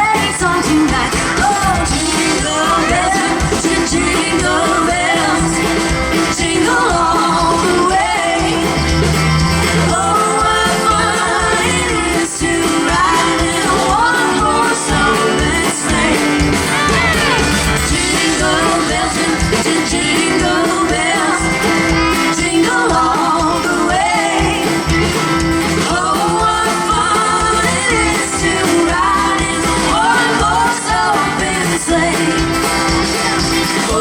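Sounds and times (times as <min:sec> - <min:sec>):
woman singing: 0:00.0 - 0:09.0, 0:09.7 - 0:34.0
live band playing: 0:00.0 - 0:34.0.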